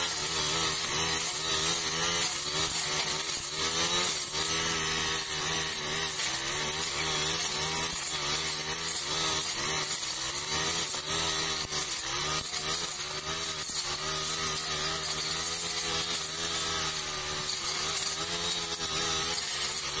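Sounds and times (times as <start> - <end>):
blade cutting through brush: 0.0 - 20.0
brush cutter engine running: 0.0 - 20.0.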